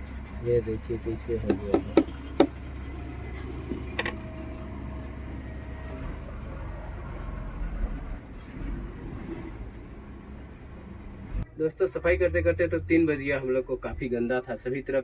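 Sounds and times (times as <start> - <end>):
low vehicle rumble: 0.0 - 14.9.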